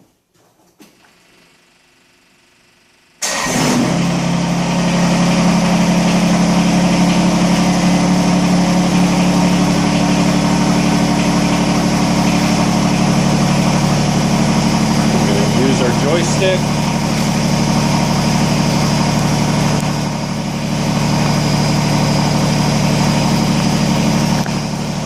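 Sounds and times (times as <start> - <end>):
tractor diesel engine starting and idling: 3.2 - 25.0.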